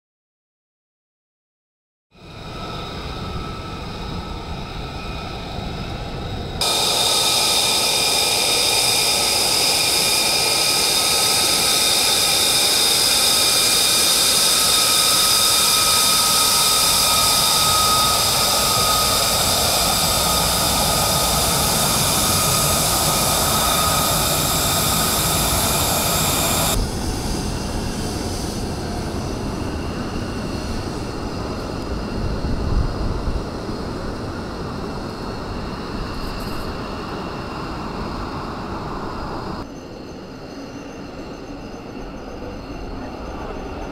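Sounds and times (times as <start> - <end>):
jet engines whining: 2.2 - 43.9
low rumble of jets taxiing: 2.2 - 43.9.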